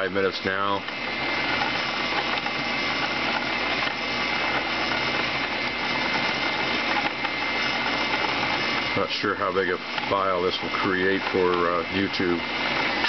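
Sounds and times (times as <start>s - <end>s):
coil winder motor whine: 0.0s - 13.0s.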